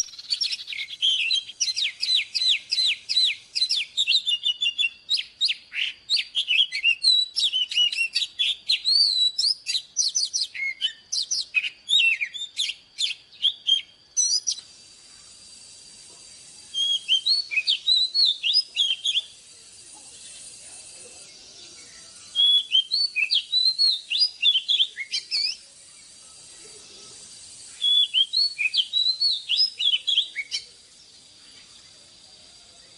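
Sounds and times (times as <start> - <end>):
bird singing whistles and chirps: 0.0 - 32.9.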